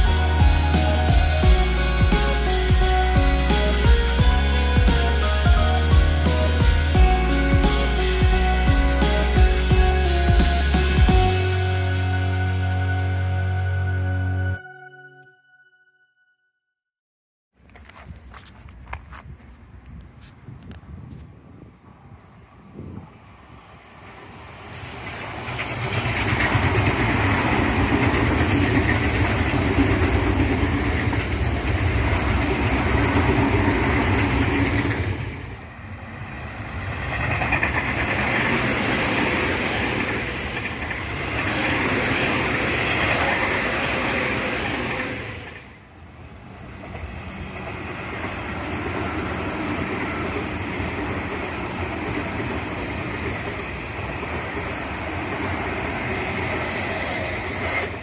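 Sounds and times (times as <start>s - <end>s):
electric trains passing: 0.0s - 15.3s, 19.6s - 58.0s.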